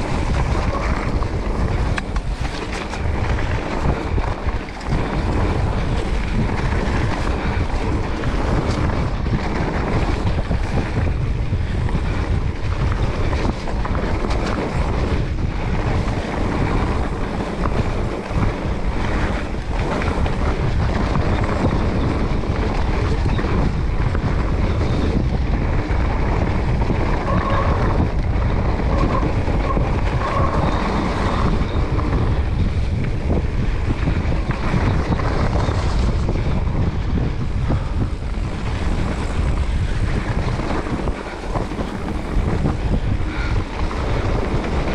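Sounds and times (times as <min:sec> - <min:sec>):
bike knocking and rattling: 0:00.0 - 0:44.9
bike tyres rolling on dirt: 0:00.0 - 0:44.9
wind rushing over microphone: 0:00.0 - 0:44.9.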